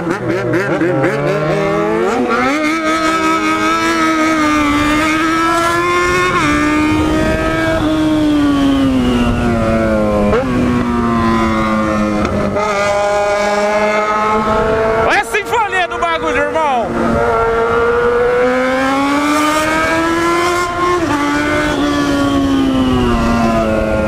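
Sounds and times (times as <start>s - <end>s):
motorcycle engine at speed: 0.0s - 24.0s.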